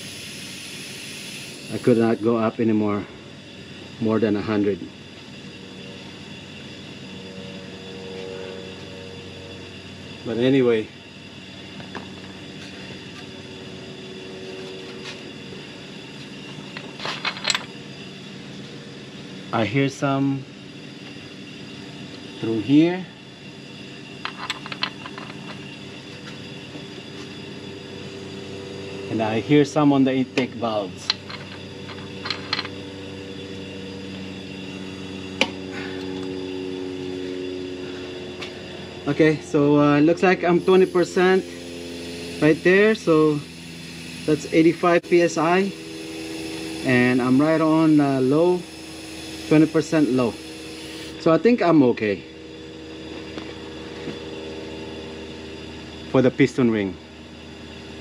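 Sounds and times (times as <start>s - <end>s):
compressed air hissing: 0.0s - 51.5s.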